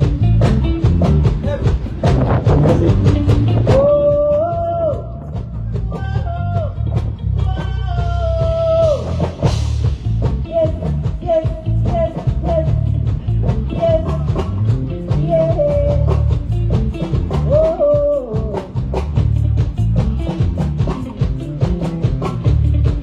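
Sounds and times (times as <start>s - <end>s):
drum kit beat: 0.0s - 23.0s
heavy bass line: 0.0s - 23.0s.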